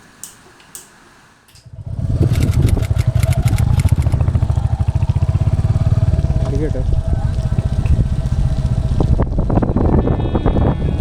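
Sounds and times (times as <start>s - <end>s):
motorcycle engine running: 1.6s - 11.0s.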